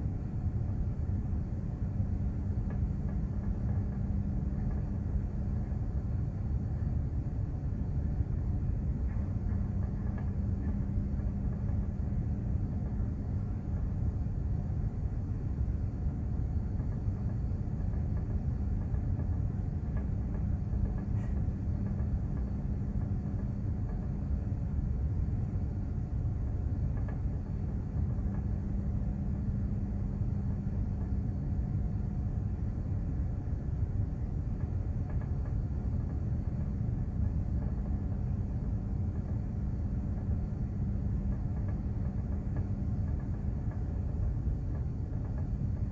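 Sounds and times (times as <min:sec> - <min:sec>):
faint steady hum: 0:00.0 - 0:45.9
ship low rumble: 0:00.0 - 0:45.9.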